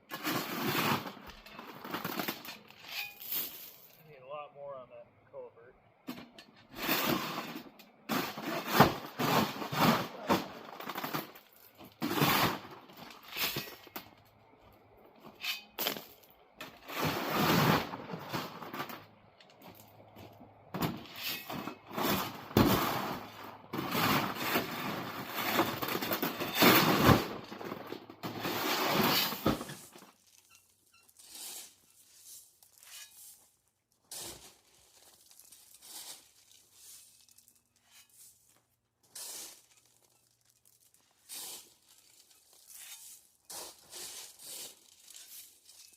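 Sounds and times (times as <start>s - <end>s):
shovel scraping crushed stone: 0.1s - 4.0s, 6.7s - 14.0s, 15.2s - 19.1s, 20.8s - 45.9s.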